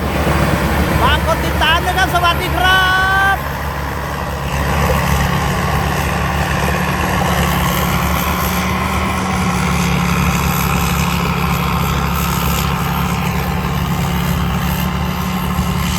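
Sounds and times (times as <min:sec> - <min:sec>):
combine harvester diesel engine drone: 0:00.0 - 0:15.9.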